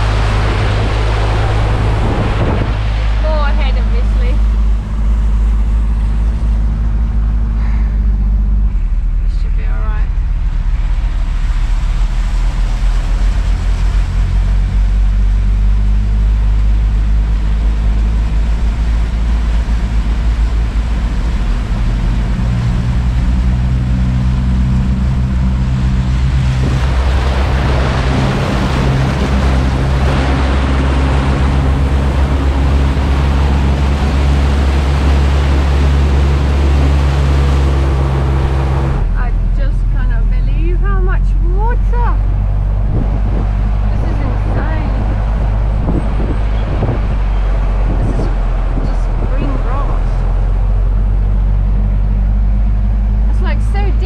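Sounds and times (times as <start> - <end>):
vehicle engine running: 0.0 - 54.0
water rushing and splashing: 0.0 - 54.0.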